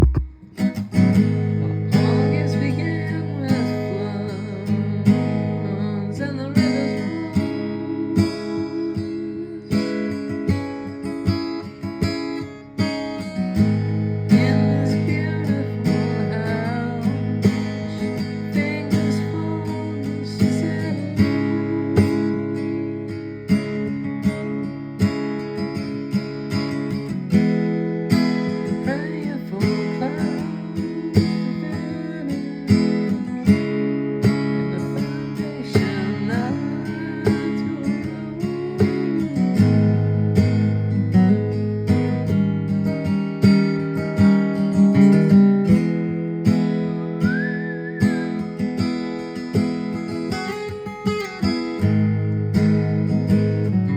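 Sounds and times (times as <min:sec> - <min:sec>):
acoustic guitar chords: 0:00.0 - 0:53.9.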